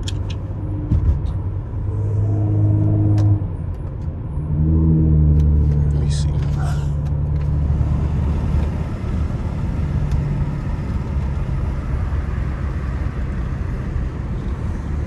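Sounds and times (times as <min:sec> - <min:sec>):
car engine drone from inside: 0:00.0 - 0:15.0
road noise: 0:00.0 - 0:15.0.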